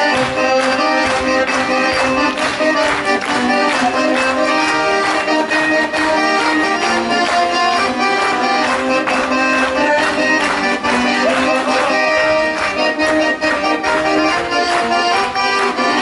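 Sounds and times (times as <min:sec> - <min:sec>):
accordions playing folk tune: 0:00.0 - 0:16.0.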